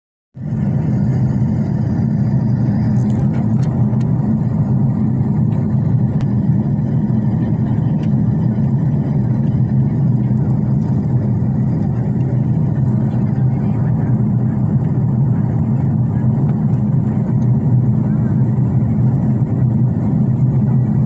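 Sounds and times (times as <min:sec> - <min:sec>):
airliner cabin drone: 0:00.4 - 0:21.0.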